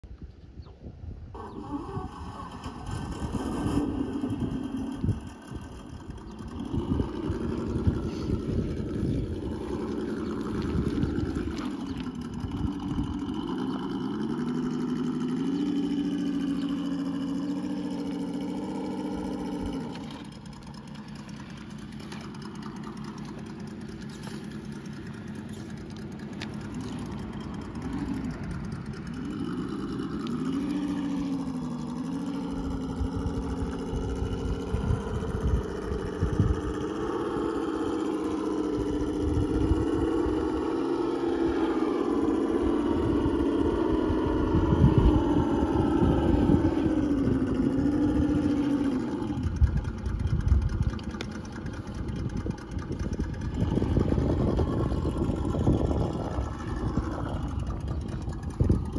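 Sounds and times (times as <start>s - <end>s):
low rumble: 0.0s - 58.9s
small motor whirring: 1.4s - 58.9s.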